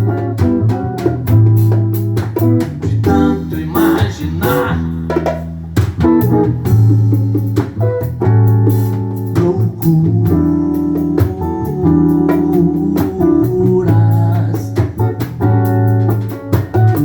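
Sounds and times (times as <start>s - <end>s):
drum beat: 0.0s - 17.0s
guitars and bass playing: 0.0s - 17.0s.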